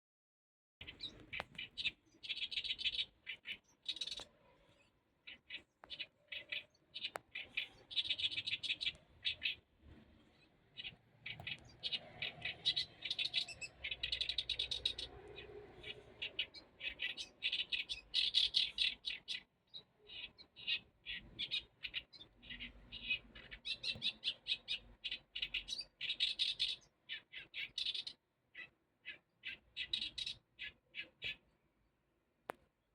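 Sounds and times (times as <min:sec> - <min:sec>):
songbird singing: 0:00.8 - 0:31.6.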